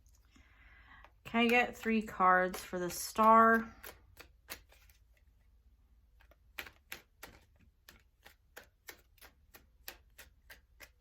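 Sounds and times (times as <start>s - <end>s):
cards being shuffled by hand: 0.0s - 11.0s.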